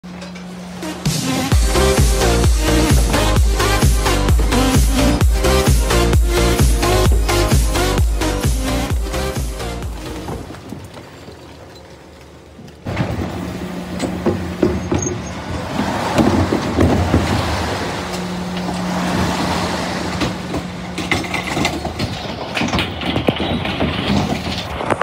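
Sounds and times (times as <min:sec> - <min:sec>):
bin lift rattling and clanking: 0:00.0 - 0:12.1, 0:12.8 - 0:25.0
truck engine hum: 0:00.0 - 0:25.0.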